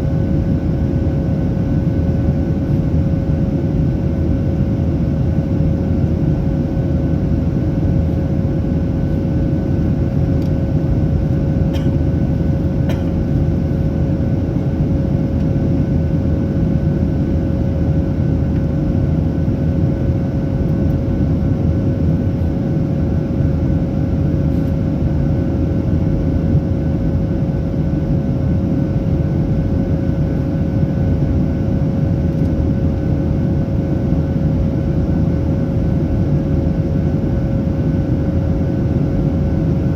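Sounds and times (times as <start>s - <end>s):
jet engines rumbling in cabin: 0.0s - 39.9s
steady hum tone: 0.0s - 39.9s.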